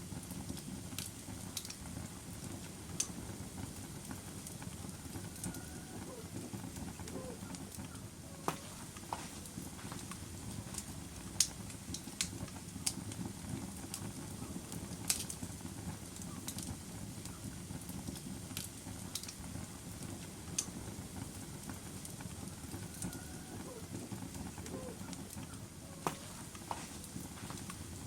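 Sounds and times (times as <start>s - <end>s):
log fire crackling: 0.0s - 28.0s.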